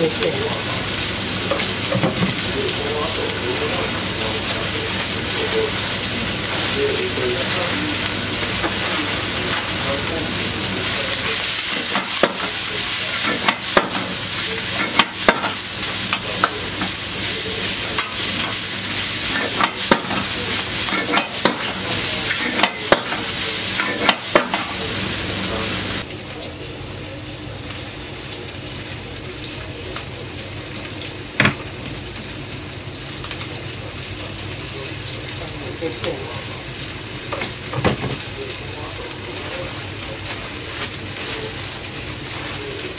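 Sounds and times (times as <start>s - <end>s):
vegetables sizzling in a wok: 0.0s - 42.9s.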